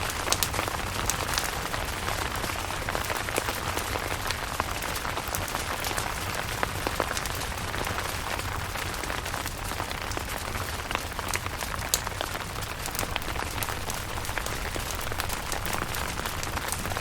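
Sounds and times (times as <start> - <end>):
rain pattering on tent: 0.0 - 17.0
raindrops ticking sharply: 0.0 - 17.0.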